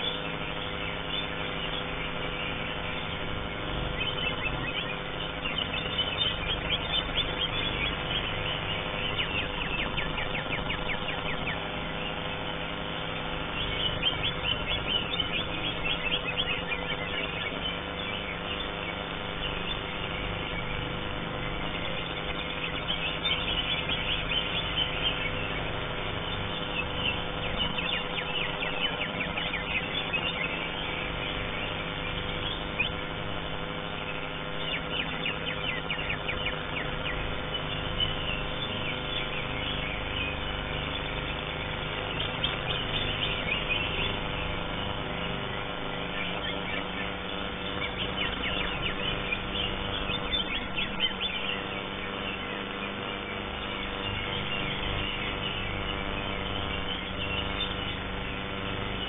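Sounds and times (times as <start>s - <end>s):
bird chirping and trilling: 0.0s - 59.0s
steady hum: 0.0s - 59.0s.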